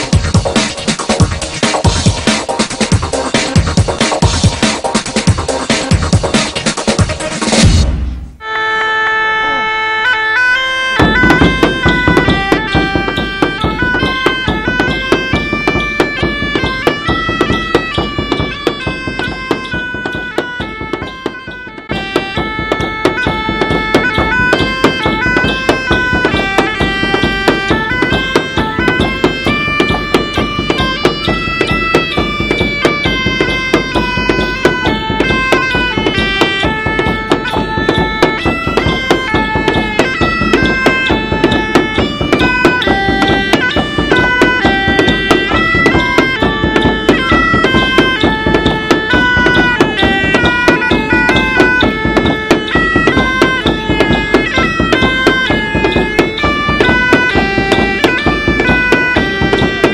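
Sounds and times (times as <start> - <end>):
steady drum beat: 0.0 - 8.4, 10.8 - 59.9
bagpipes playing melody: 8.4 - 59.9.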